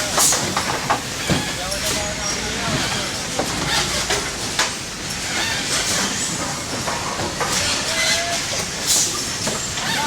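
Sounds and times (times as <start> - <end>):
clatter of parts and machinery: 0.0 - 2.1, 2.7 - 10.0.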